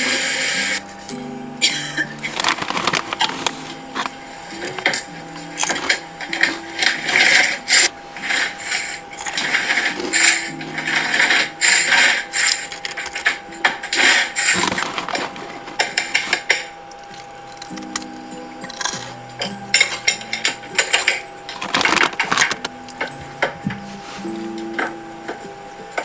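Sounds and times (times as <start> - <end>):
snack packaging crinkling: 0.0 - 25.4
soft background music: 0.0 - 26.0.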